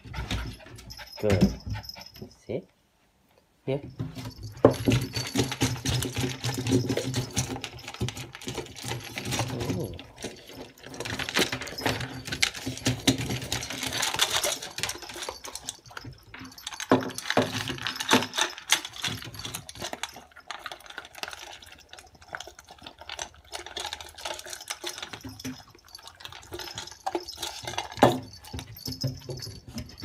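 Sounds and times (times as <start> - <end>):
puppies crunching kibble in metal bowl: 4.3 - 30.0.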